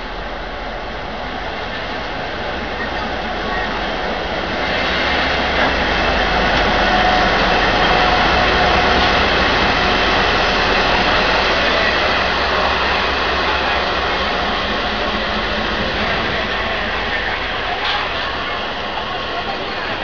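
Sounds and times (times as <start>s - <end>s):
locomotive passing with heavy rumble: 0.0s - 20.0s
train coaches rolling on rails: 0.0s - 20.0s.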